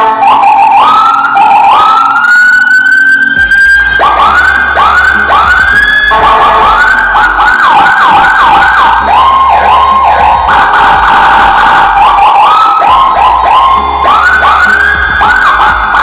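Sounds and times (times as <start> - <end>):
electronic vehicle siren: 0.0 - 16.0.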